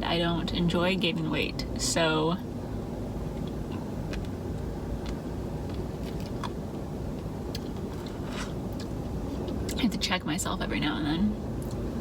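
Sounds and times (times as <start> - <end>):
car interior hum: 0.0 - 12.0.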